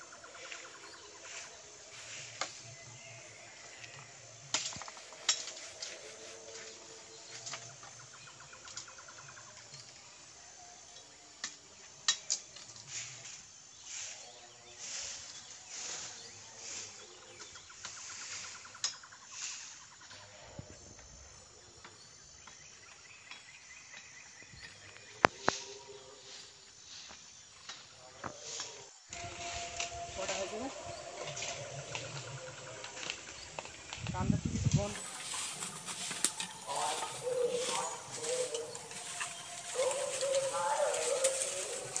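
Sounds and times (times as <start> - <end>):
bamboo leaves rustling: 0.0 - 10.0, 12.2 - 20.3, 24.9 - 42.0.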